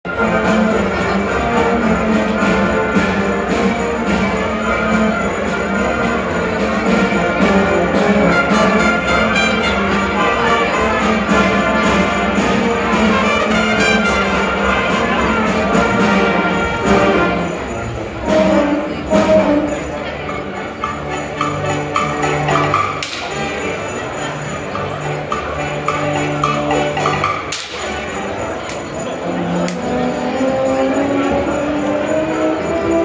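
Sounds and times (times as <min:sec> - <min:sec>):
concert band playing: 0:00.1 - 0:33.0.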